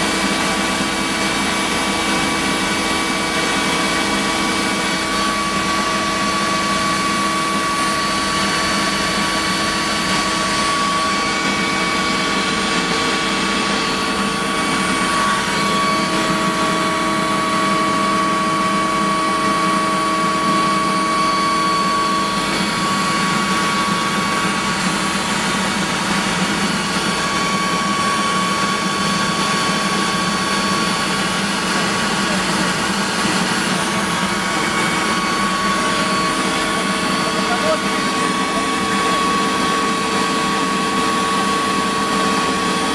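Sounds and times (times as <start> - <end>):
helicopter engines and rotor: 0.0 - 42.9.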